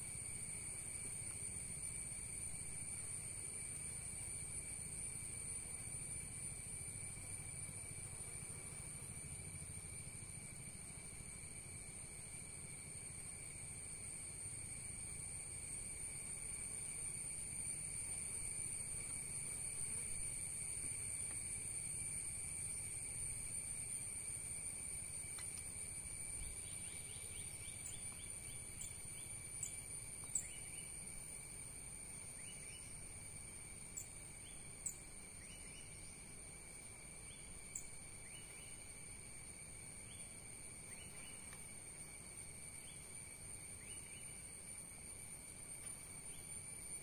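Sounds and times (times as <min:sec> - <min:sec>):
insect trilling: 0:00.0 - 0:47.0
short insect chirps: 0:00.0 - 0:47.0.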